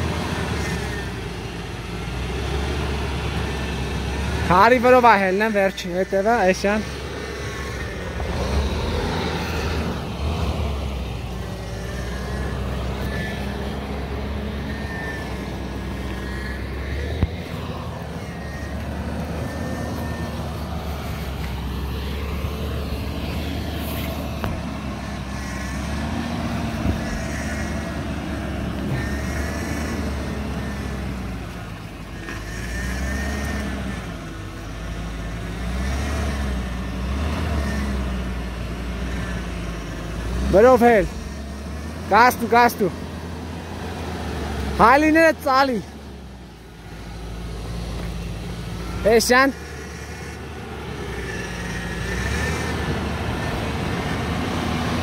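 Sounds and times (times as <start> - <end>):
engine running at low revs: 0.0 - 55.0.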